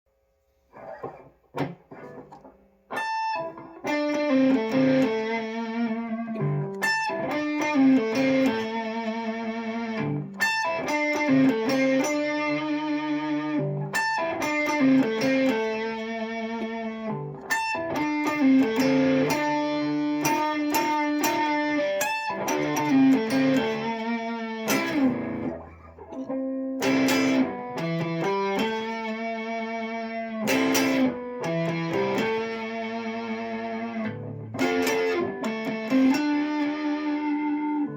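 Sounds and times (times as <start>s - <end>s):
guitar playing notes and chords: 0.7s - 37.9s.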